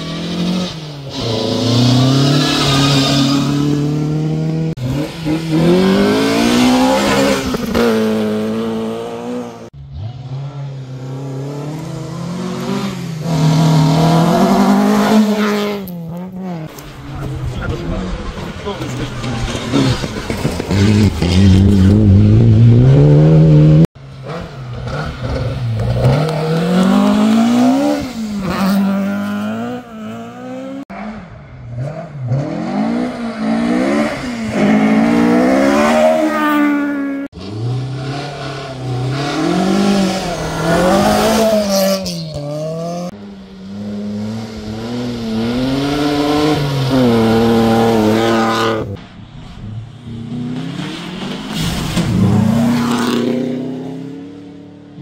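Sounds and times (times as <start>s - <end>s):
rally car engines revving past: 0.0s - 55.0s.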